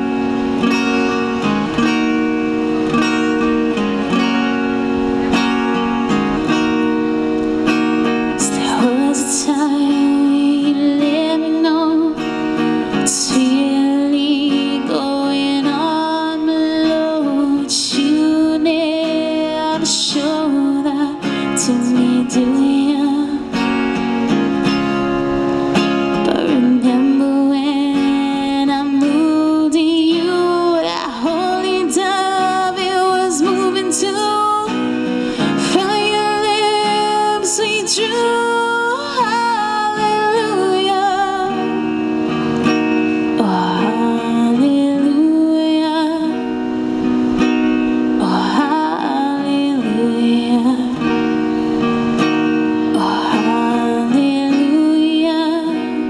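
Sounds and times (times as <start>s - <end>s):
acoustic guitar strumming: 0.0s - 56.0s
woman singing: 7.6s - 24.8s, 25.7s - 56.0s.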